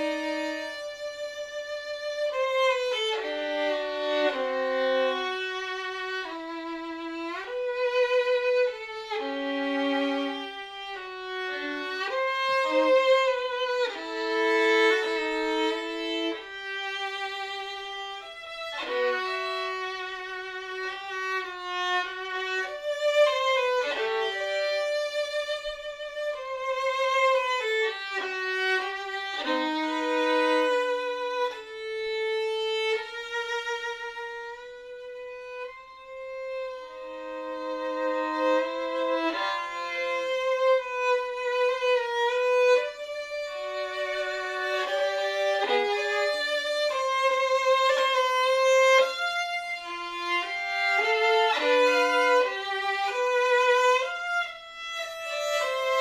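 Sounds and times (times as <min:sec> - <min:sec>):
solo violin slow melody: 0:00.0 - 0:56.0.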